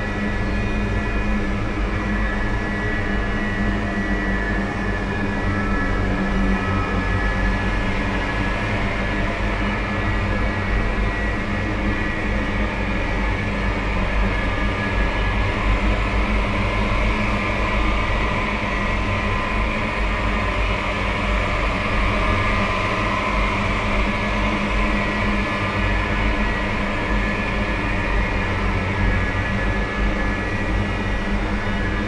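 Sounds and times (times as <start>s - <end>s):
dark ambient drone: 0.0s - 32.0s.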